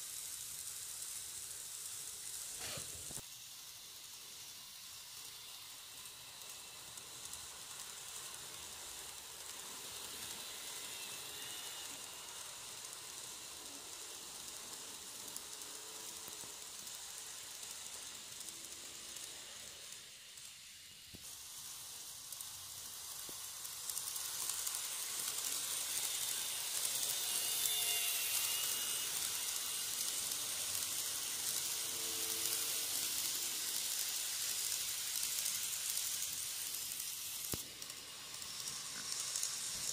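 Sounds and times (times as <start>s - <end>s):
faint motor whine: 0.0s - 39.9s
model train wheels on rails: 0.0s - 39.9s.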